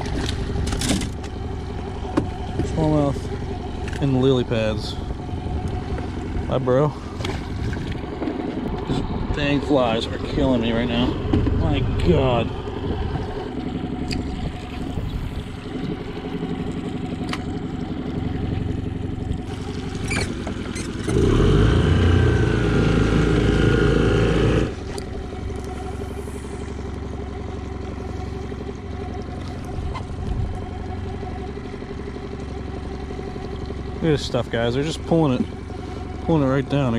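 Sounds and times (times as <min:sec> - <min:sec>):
outboard motor idling and revving: 0:00.0 - 0:36.9.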